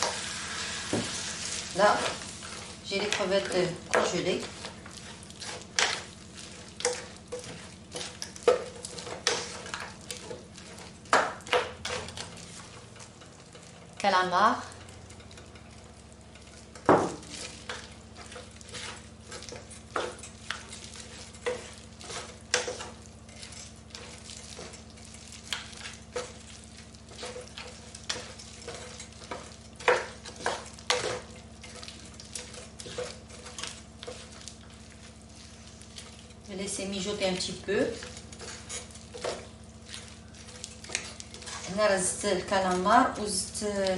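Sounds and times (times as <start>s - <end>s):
utensil scraping a pan: 0.0s - 13.8s, 17.3s - 43.9s
light sizzle: 0.0s - 43.9s.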